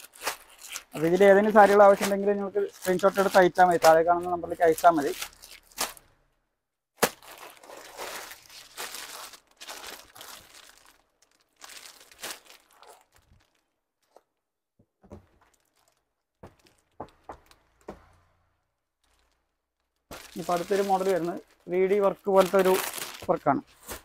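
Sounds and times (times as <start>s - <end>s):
fabric crinkling and rustling: 0.0s - 6.1s, 7.0s - 17.8s, 18.8s - 24.0s.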